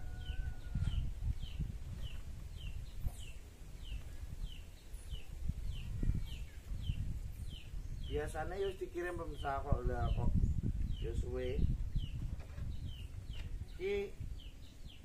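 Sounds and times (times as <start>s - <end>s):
small bird chirping: 0.1s - 15.0s.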